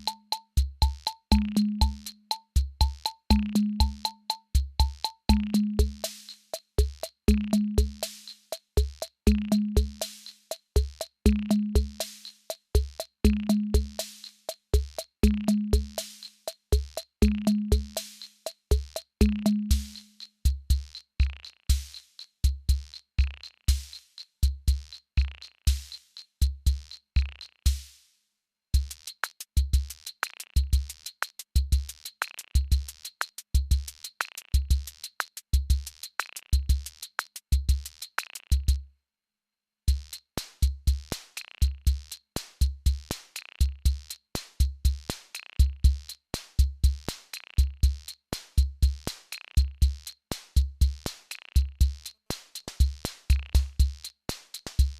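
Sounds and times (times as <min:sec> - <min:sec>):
crisp hi-hat ticks: 0:00.0 - 0:28.1, 0:28.8 - 0:38.8, 0:39.9 - 0:54.9.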